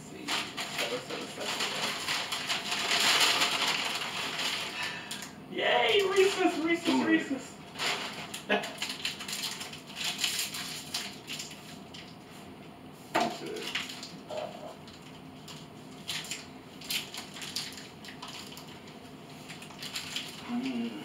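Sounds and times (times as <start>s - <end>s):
paper bags rustling and crinkling: 0.2s - 12.2s, 14.8s - 20.8s.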